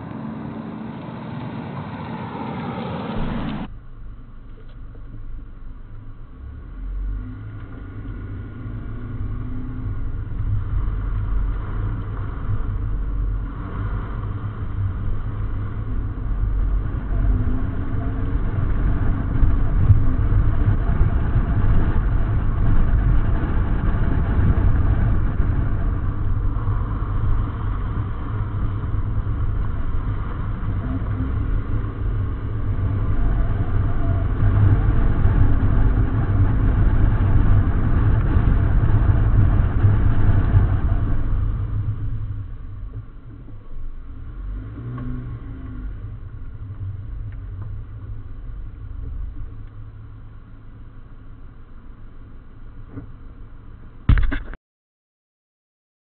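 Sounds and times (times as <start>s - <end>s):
tyres rumbling on road: 0.0s - 54.6s.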